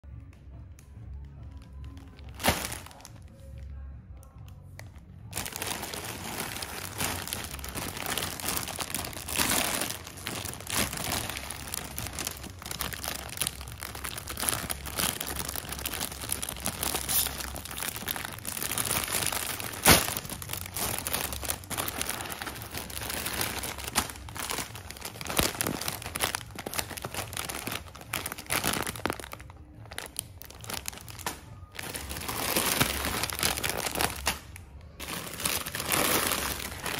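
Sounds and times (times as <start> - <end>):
plastic and foil bags crinkling: 0.8 - 36.9.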